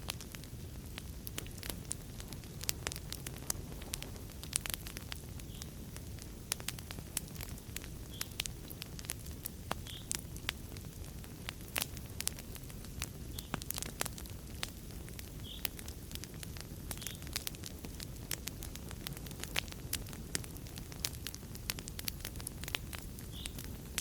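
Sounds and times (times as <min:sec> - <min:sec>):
fire flames rumbling: 0:00.0 - 0:24.0
wood crackling and popping: 0:00.0 - 0:24.0.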